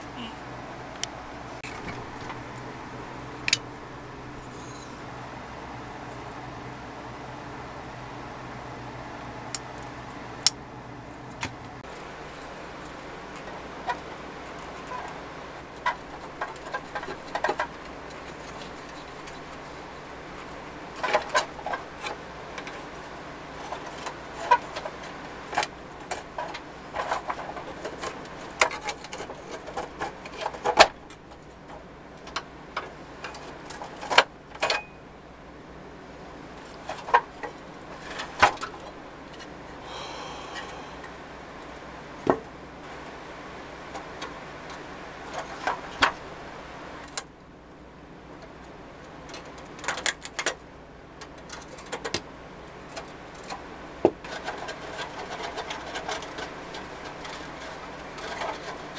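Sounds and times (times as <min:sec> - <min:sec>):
low steady hum: 0:00.0 - 0:58.9.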